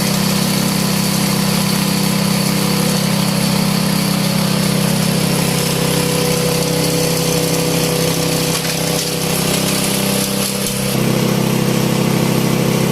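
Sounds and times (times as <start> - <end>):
chopper grinder engine drone: 0.0 - 12.9.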